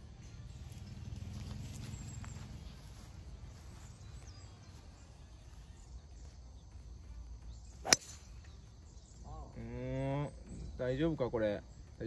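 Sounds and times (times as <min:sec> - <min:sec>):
faint high chirp: 0:00.0 - 0:11.1.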